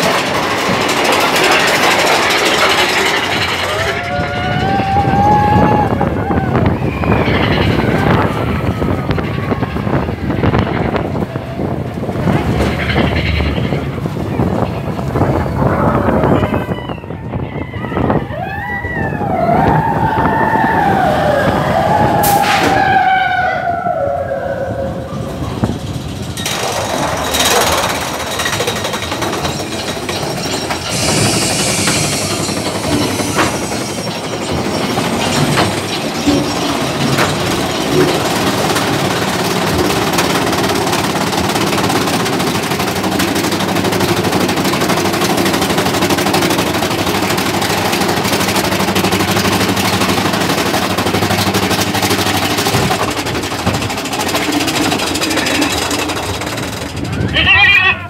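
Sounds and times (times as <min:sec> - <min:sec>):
roller coaster lift chain clatter: 0:00.0 - 0:58.0.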